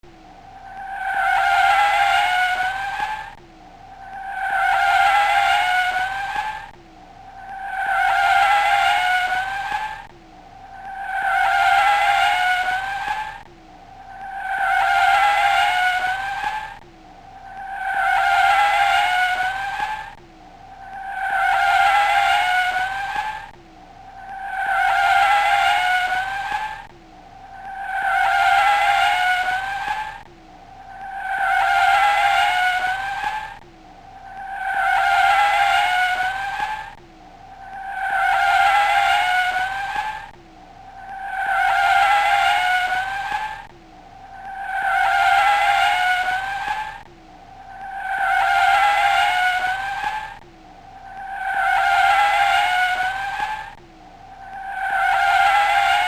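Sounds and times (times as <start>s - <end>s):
car tyres squealing: 0.0s - 43.7s, 44.3s - 50.4s, 51.0s - 53.8s, 54.4s - 56.0s.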